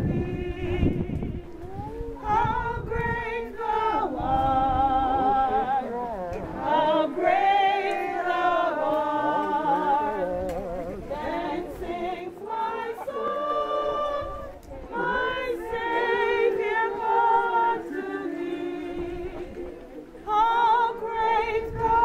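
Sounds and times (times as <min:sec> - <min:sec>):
group singing a hymn: 0:00.0 - 0:22.0.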